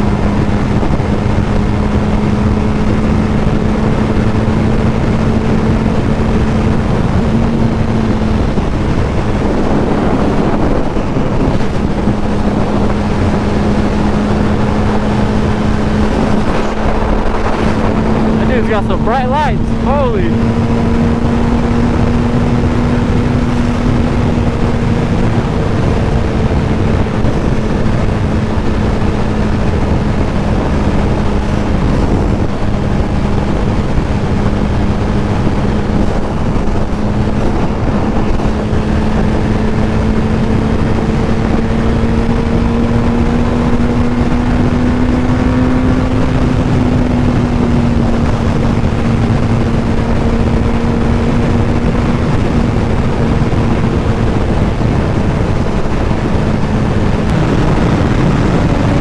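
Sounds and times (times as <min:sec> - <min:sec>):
motorcycle engine cruising: 0:00.0 - 0:59.0
wind noise on microphone: 0:00.0 - 0:59.0.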